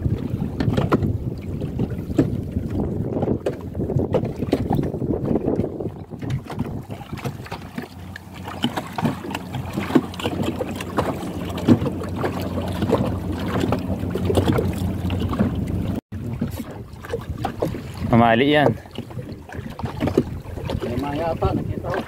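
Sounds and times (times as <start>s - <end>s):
waves lapping against boat hull: 0.0s - 22.0s
wind on microphone: 0.0s - 22.0s.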